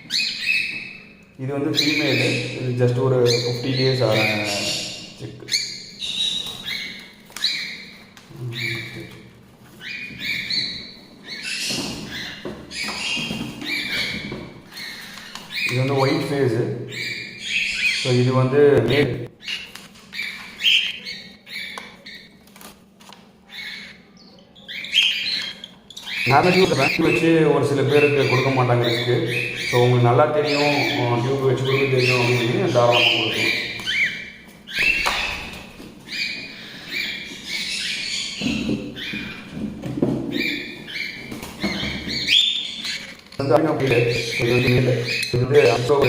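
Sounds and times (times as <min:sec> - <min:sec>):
chicks giving raspy begging calls: 0:00.0 - 0:22.4, 0:23.4 - 0:46.0.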